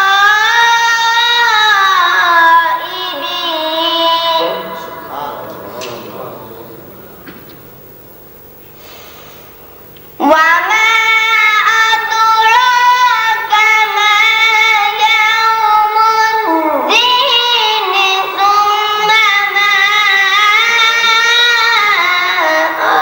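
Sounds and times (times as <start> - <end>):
boy chanting recitation: 0.0 - 7.6, 10.2 - 23.0.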